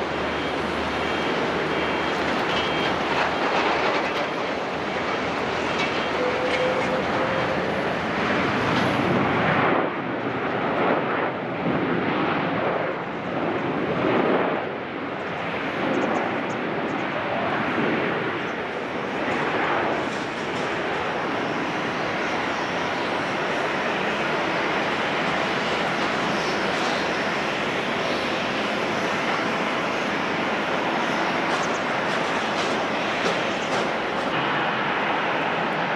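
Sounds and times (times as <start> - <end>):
jet engines in reverse thrust: 0.0 - 35.9.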